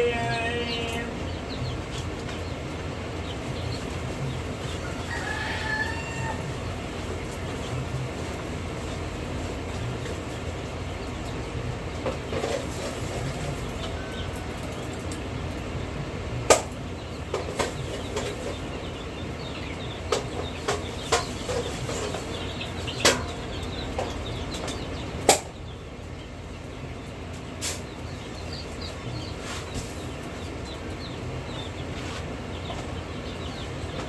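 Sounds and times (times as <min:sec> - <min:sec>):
chickens clucking and peeping: 0:00.0 - 0:34.0
steady low hum: 0:00.0 - 0:34.0.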